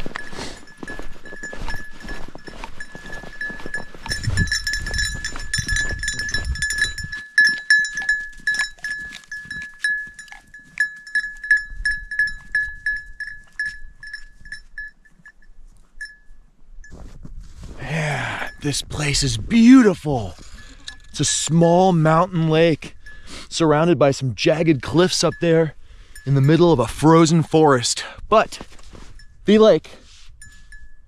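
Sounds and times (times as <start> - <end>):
goat bell ringing: 0.0 - 17.2, 17.8 - 28.0, 28.9 - 31.0.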